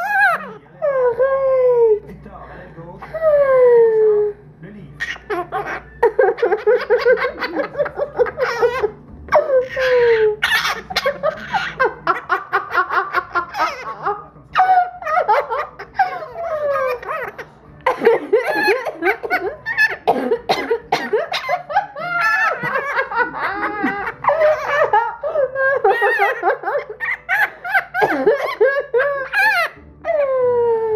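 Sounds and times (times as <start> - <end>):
parrot mimicking laughter: 0.0 - 2.0, 5.0 - 30.9.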